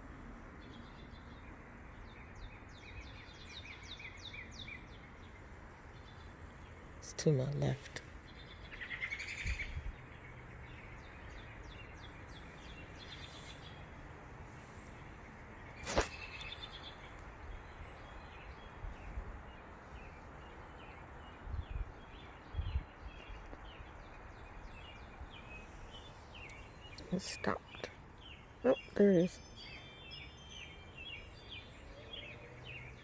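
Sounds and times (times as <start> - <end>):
birds chirping: 2.1 - 33.0.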